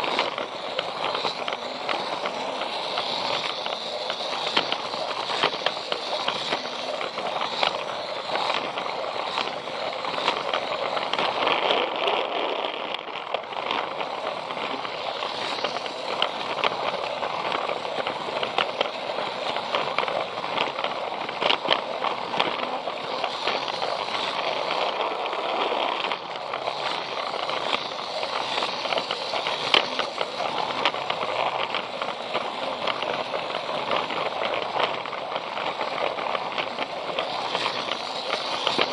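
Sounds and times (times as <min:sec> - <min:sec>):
toy train rattling on plastic track: 0:00.0 - 0:38.9.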